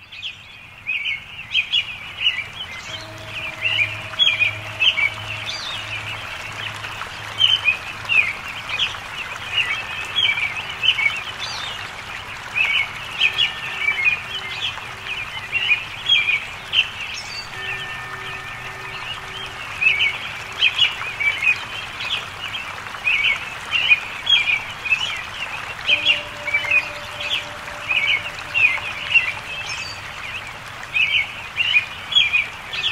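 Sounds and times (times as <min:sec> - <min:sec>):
songbirds chirping: 0:00.0 - 0:32.9.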